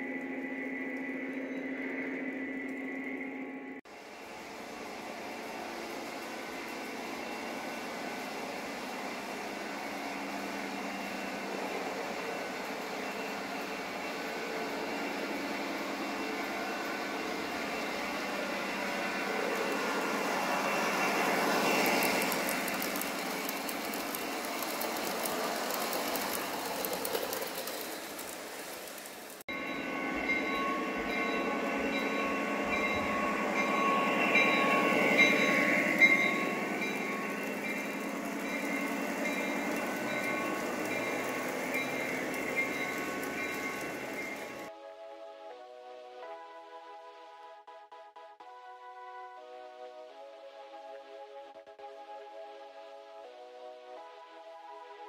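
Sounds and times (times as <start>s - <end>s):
model train wheels rolling on rails: 0.0s - 44.7s.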